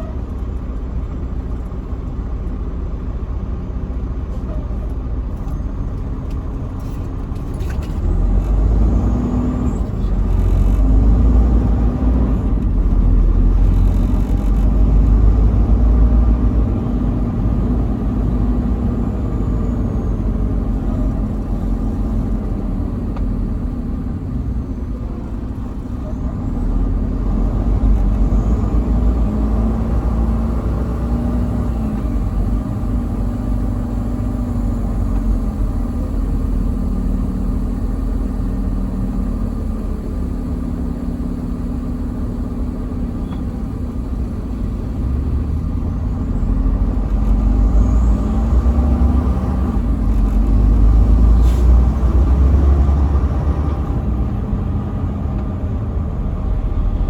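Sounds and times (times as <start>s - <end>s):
diesel truck engine: 0.0s - 57.0s
low road rumble: 0.0s - 57.0s.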